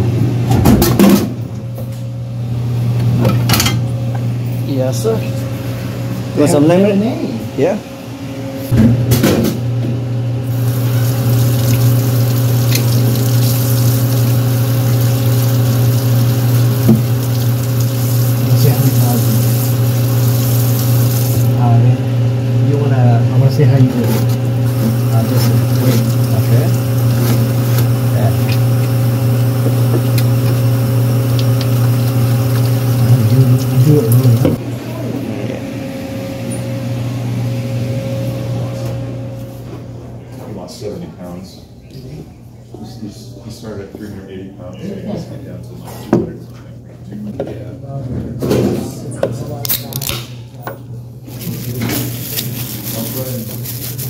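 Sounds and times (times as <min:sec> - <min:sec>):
low machine hum: 0:00.0 - 0:49.6.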